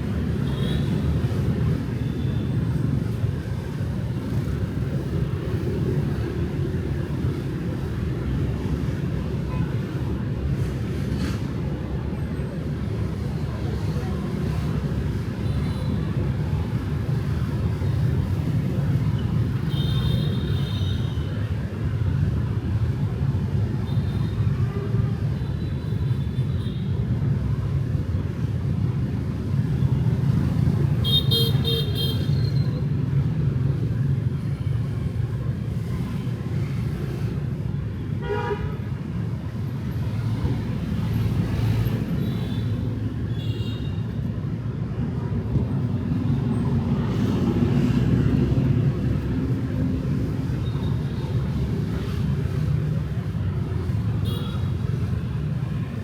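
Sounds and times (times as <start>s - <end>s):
motorbike traffic rumble: 0.0s - 56.0s.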